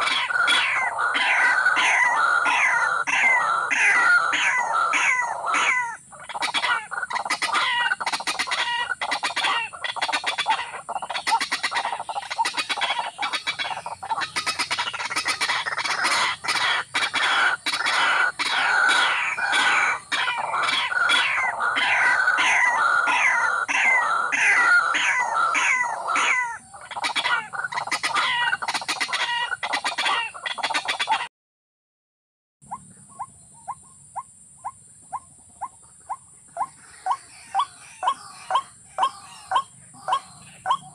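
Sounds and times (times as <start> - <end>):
rail bird calling: 0.0 - 31.3, 32.7 - 40.9.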